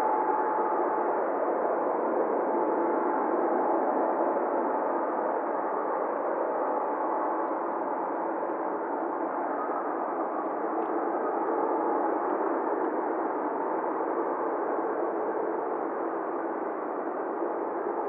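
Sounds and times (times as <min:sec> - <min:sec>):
faint constant tone: 0:00.0 - 0:18.0.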